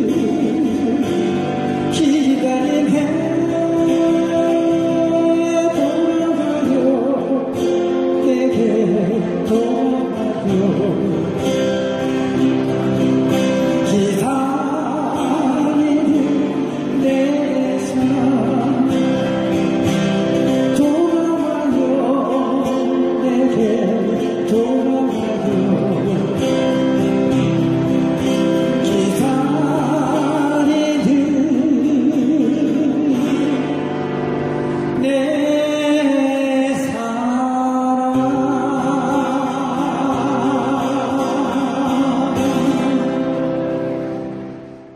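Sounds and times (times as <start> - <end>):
man singing a slow ballad: 0.0 - 12.5, 13.3 - 43.8
guitar accompaniment: 0.0 - 44.9.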